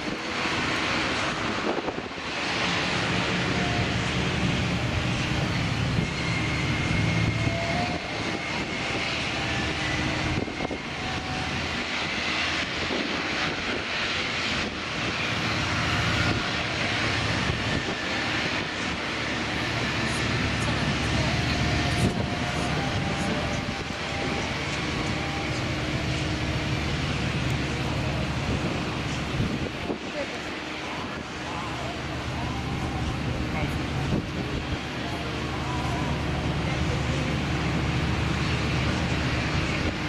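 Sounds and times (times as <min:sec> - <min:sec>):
faint high whine: 0:00.0 - 0:40.0
turboprop engines running: 0:00.0 - 0:40.0.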